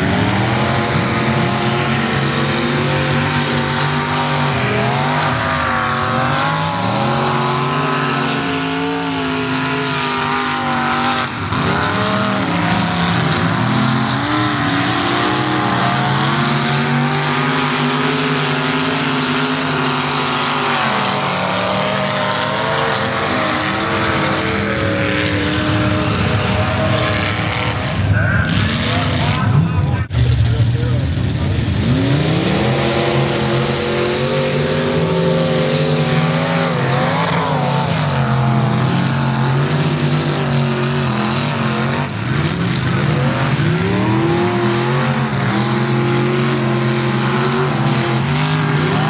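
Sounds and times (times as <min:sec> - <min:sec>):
truck engines revving hard: 0:00.0 - 0:49.0.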